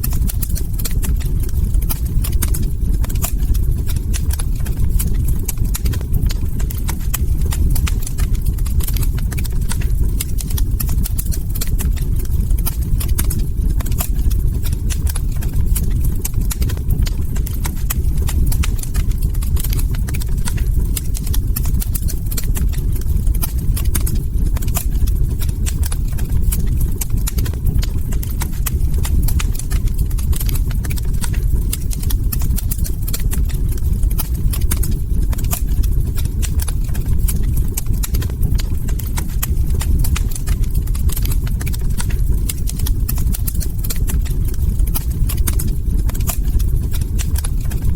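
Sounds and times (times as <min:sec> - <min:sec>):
log fire crackling: 0:00.0 - 0:47.9
low rumble: 0:00.0 - 0:47.9.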